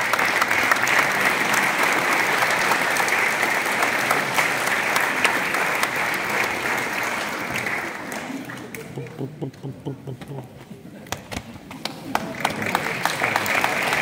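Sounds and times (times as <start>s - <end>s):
audience applauding: 0.0s - 10.4s, 11.7s - 14.0s.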